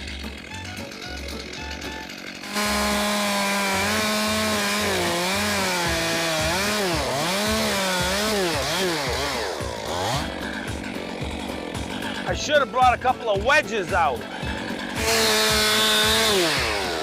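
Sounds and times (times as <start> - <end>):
chainsaw cutting log: 0.0 - 17.0.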